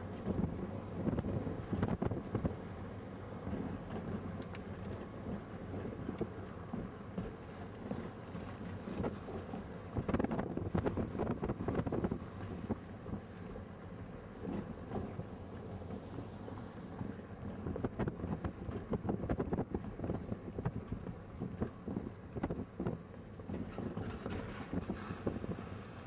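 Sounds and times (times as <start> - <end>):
vehicle road and engine noise: 0.0 - 26.0
wind buffeting microphone: 0.0 - 26.0.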